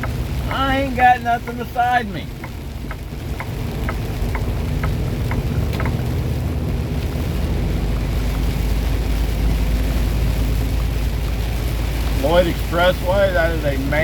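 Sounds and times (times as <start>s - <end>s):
diesel engine droning: 0.0s - 14.0s
rain on truck: 0.0s - 14.0s.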